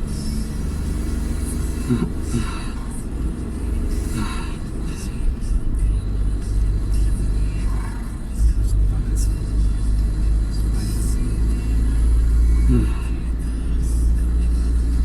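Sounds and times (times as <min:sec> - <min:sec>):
car engine rumbling: 0:00.0 - 0:15.0
high-pitched abnormal vehicle noise: 0:00.0 - 0:15.0.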